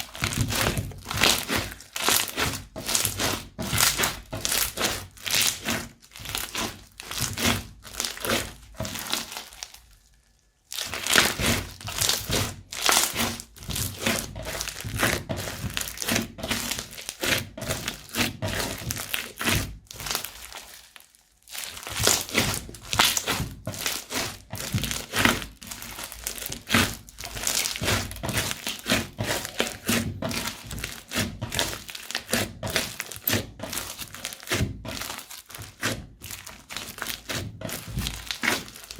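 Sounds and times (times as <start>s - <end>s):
crunchy slime crackling: 0.0s - 38.9s.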